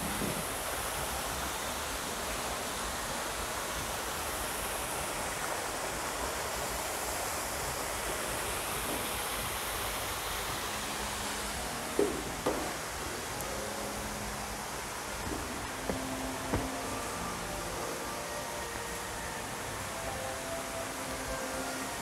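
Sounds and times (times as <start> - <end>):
outdoor evening ambience hiss: 0.0 - 22.0.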